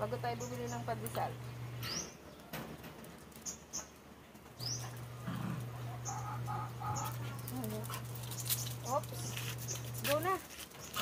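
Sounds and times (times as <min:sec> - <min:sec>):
steady low hum: 0:00.0 - 0:02.2, 0:04.0 - 0:11.0
small birds chirping: 0:00.0 - 0:02.6, 0:03.3 - 0:11.0.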